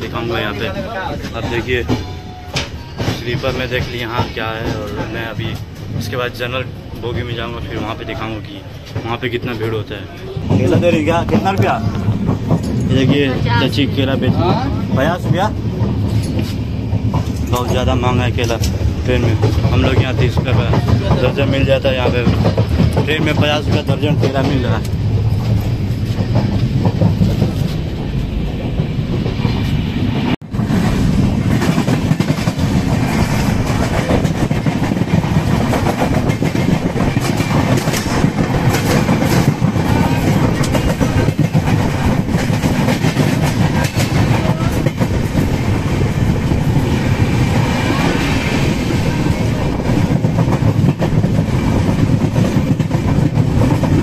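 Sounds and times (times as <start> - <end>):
train rumbling: 0.0 - 54.0
wheels clacking over rails: 7.3 - 54.0.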